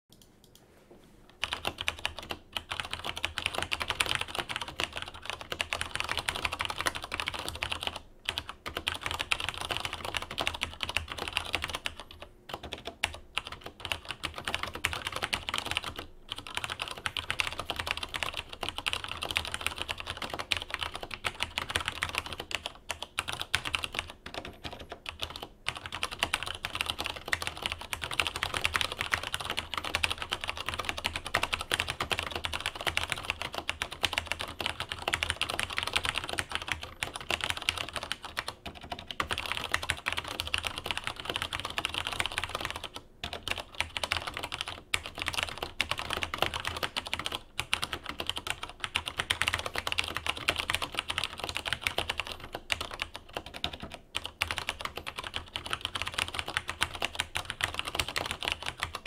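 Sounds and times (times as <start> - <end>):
fast keyboard typing: 1.4 - 59.0.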